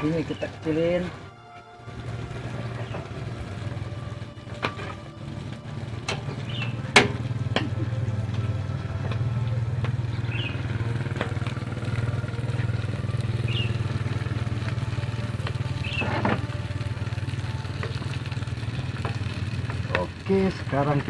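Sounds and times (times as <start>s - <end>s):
steady low hum: 0.0s - 20.8s
fish frying on grill plate: 1.8s - 21.0s.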